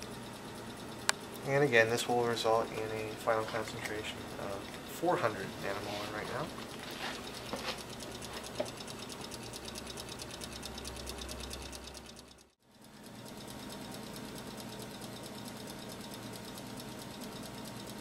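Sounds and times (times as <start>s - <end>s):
mechanical whirring hum: 0.0s - 18.0s.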